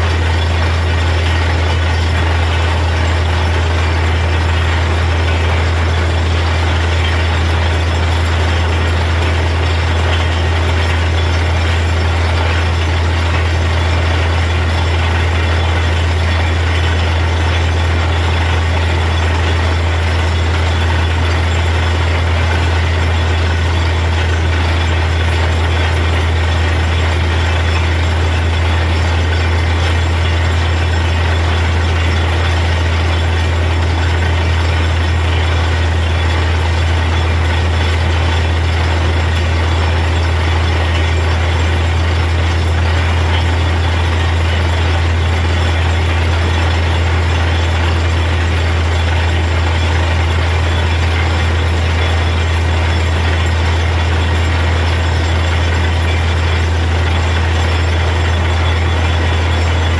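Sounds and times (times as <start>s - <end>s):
drilling rig engine hum: 0.0s - 59.9s.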